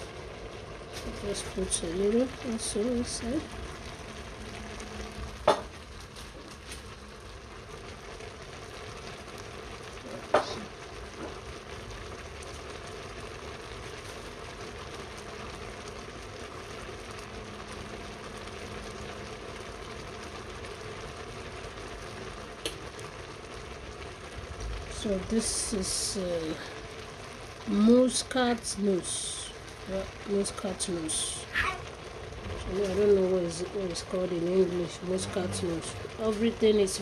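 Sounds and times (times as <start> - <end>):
stew sizzling: 0.0 - 37.0.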